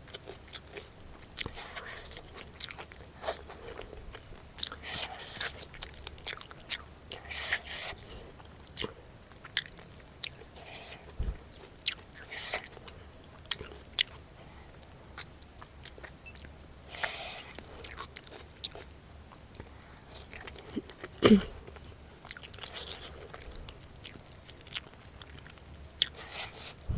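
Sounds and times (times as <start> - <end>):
close chewing and biting: 0.0 - 26.9.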